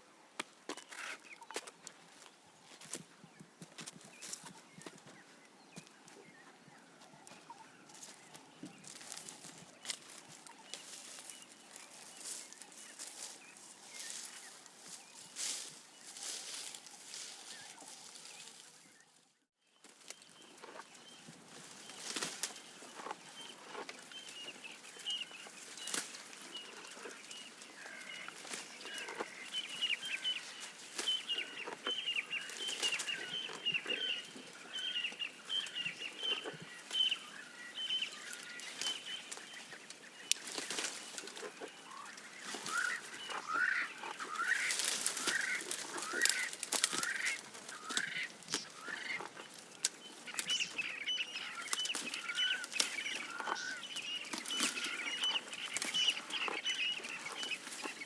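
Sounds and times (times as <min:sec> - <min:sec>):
birds chirping: 0:00.7 - 0:58.0
giraffe crunching leaves: 0:07.2 - 0:19.2, 0:19.8 - 0:58.0.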